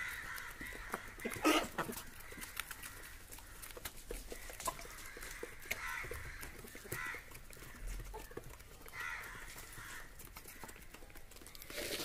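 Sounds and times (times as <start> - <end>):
chickens pecking grain from hand: 0.0 - 12.0.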